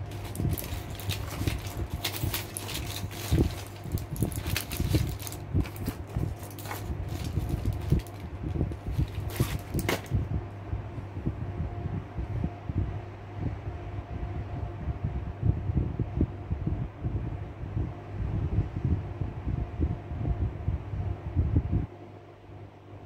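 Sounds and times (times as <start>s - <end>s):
electric fan humming: 0.0s - 23.0s.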